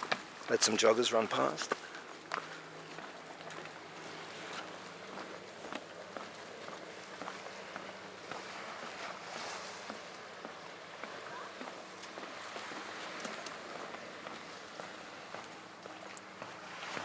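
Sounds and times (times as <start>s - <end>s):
footsteps on outdoor path: 0.0s - 17.0s
steady outdoor hiss: 0.0s - 17.0s.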